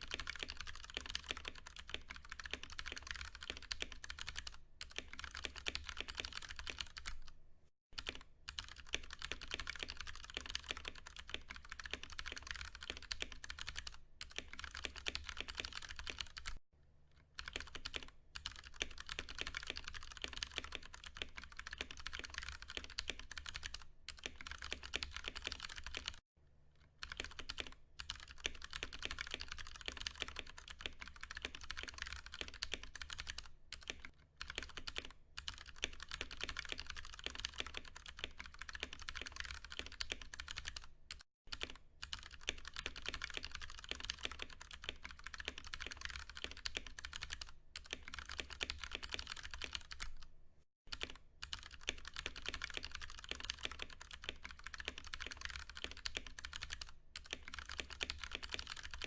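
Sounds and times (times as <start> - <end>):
fast typing on mechanical keyboard: 0.0 - 7.4, 8.0 - 16.6, 17.4 - 26.2, 27.0 - 50.3, 50.9 - 59.0.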